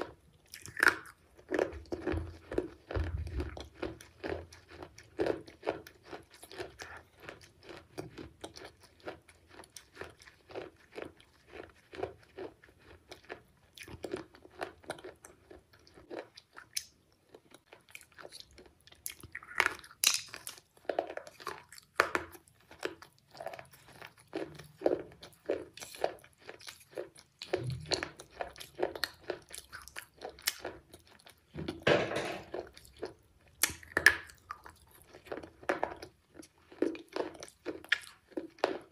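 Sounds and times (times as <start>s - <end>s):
person crunching and chewing: 0.0s - 38.9s.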